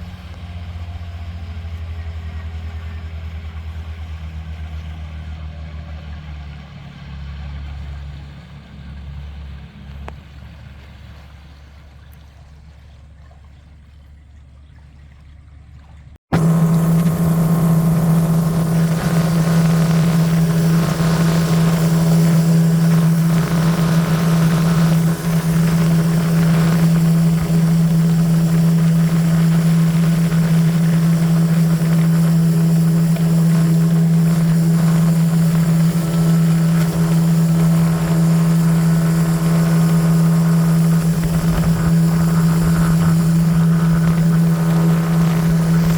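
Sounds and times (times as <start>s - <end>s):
boat engine drone: 0.0s - 45.9s
quieter low hum: 0.0s - 45.9s.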